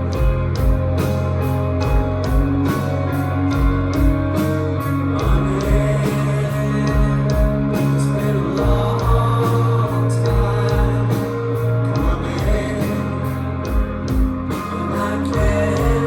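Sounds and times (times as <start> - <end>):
bass: 0.0 - 16.0
guitars: 0.0 - 16.0.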